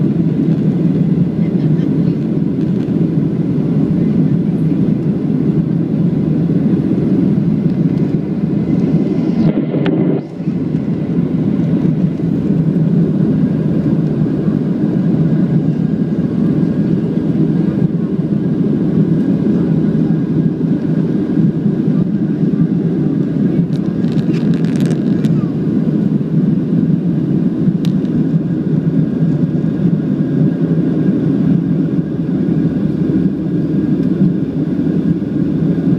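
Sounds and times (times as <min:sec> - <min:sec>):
jet engine cabin noise: 0:00.0 - 0:35.9.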